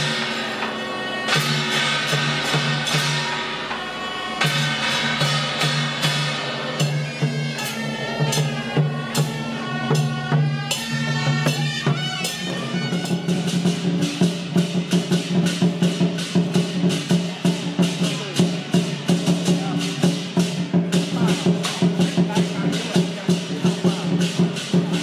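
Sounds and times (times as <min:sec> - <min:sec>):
drums and cymbals beat: 0:00.0 - 0:25.0.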